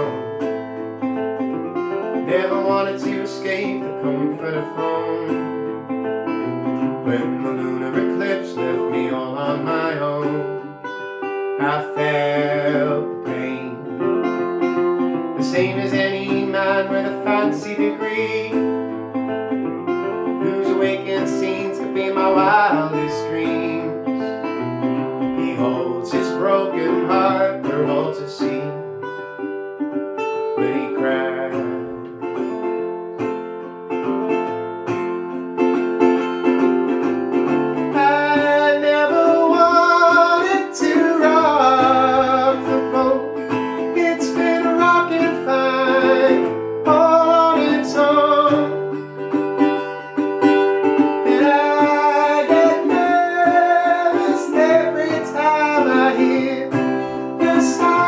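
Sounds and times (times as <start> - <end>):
resonator guitar picked accompaniment: 0.0 - 58.0
sliding guitar melody: 0.0 - 58.0.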